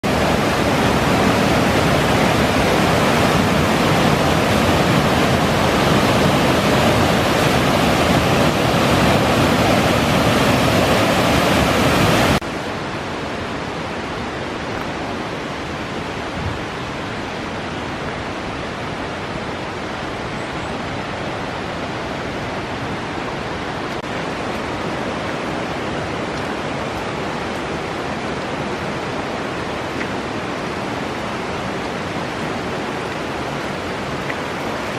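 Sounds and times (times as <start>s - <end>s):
mountain stream rushing: 0.0s - 34.9s.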